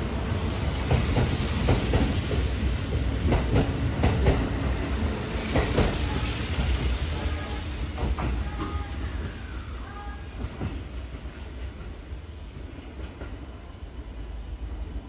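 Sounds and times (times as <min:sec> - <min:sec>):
train rumbling with wheel clacks: 0:00.0 - 0:15.0.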